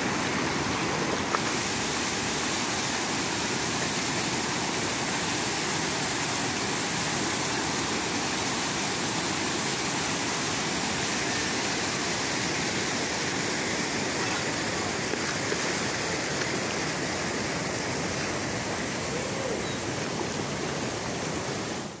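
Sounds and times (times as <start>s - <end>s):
water rushing through rapids: 0.0s - 22.0s.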